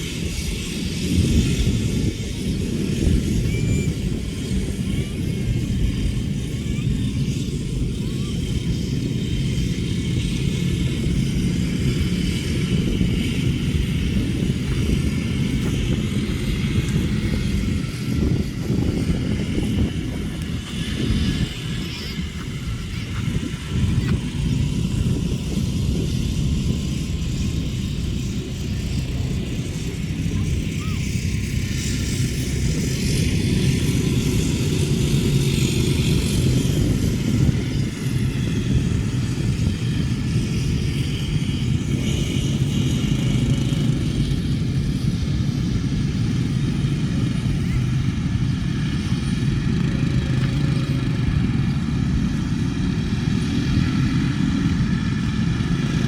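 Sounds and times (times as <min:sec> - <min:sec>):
motorcycle engines running: 0:00.0 - 0:56.0.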